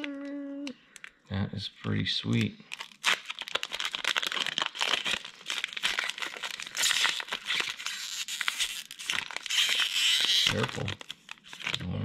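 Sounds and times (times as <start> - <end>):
foil wrapper crinkling and tearing: 2.3 - 12.0.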